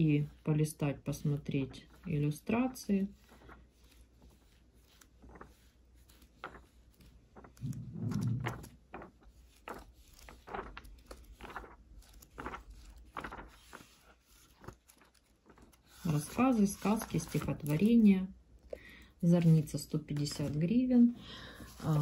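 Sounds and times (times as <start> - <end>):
book pages rustling: 1.1 - 22.0.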